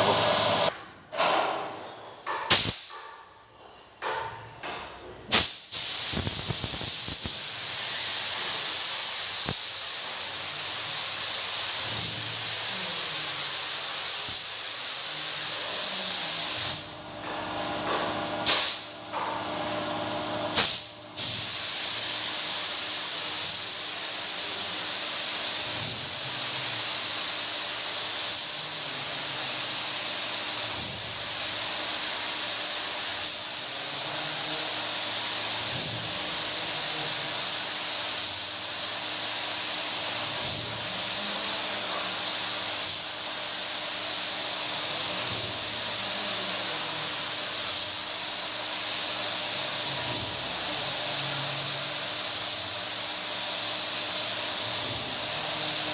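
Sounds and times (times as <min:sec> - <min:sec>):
short air blasts: 0:00.0 - 0:03.0, 0:05.3 - 0:17.0, 0:17.8 - 0:19.0, 0:20.5 - 0:28.6, 0:34.4 - 0:55.9
spray gun hissing: 0:05.3 - 0:17.0, 0:18.5 - 0:18.9, 0:20.6 - 0:55.9.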